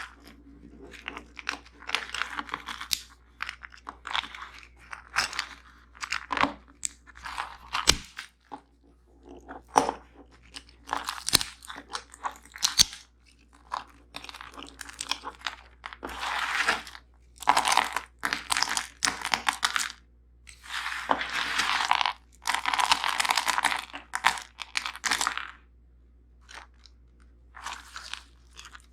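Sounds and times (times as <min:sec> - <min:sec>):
chewing crunchy food: 0:00.0 - 0:25.6, 0:26.4 - 0:28.9.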